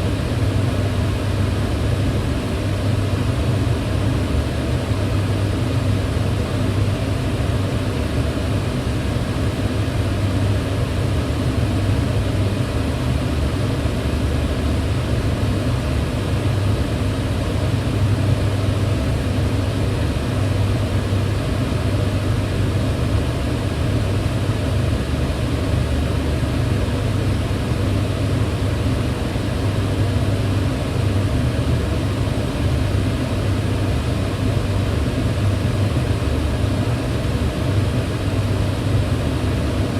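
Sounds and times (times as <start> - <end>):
range hood fan humming: 0.0 - 39.9.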